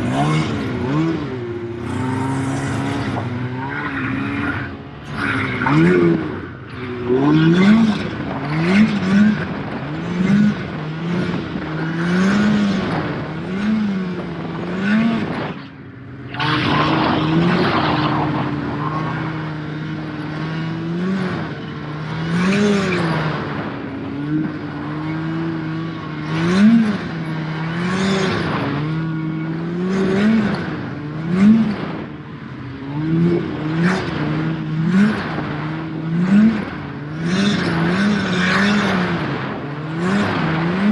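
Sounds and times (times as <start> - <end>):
snowmobile engine revving: 0.0 - 32.1, 32.7 - 40.9.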